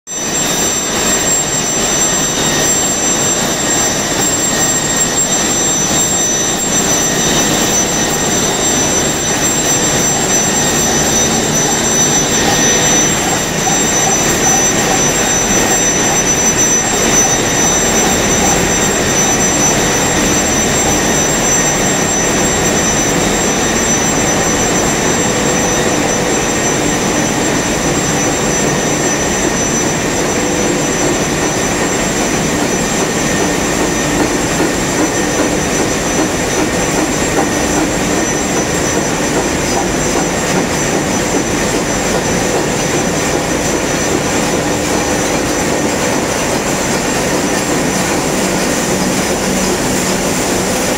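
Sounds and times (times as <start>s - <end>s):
high steady machine whines: 0.1s - 50.9s
machine mechanical din: 0.3s - 50.9s.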